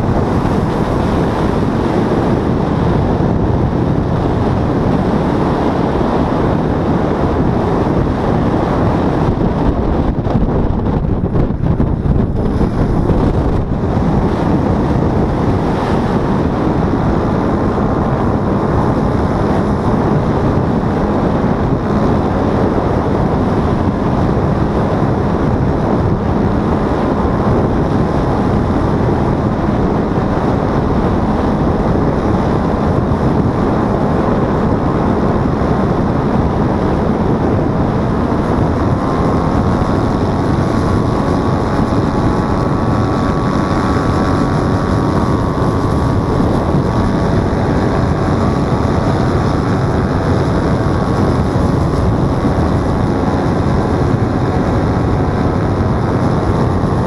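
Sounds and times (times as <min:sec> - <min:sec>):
paramotor engine and propeller: 0:00.0 - 0:57.0
wind rush on microphone: 0:00.0 - 0:57.0.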